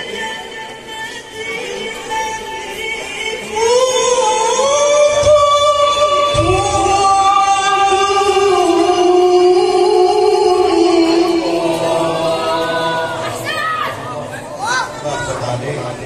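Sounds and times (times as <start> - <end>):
person reciting in melodic style: 0.0 - 16.0.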